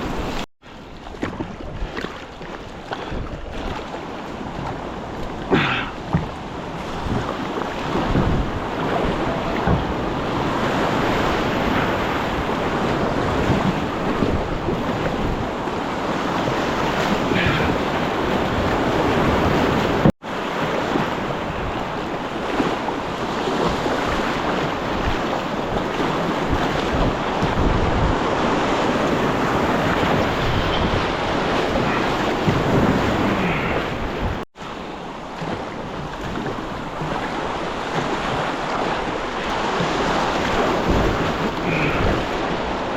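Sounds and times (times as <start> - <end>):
rushing river water: 0.0 - 42.9
wind buffeting microphone: 1.0 - 42.9.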